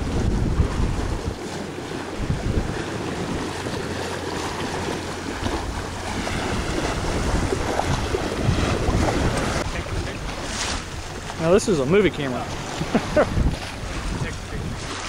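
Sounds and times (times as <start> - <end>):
water rushing along hull: 0.0 - 15.0
wind buffeting microphone: 0.0 - 15.0.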